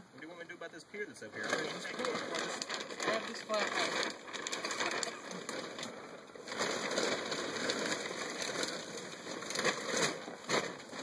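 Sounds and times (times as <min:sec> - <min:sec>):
plastic sheeting crinkling: 0:01.3 - 0:11.0.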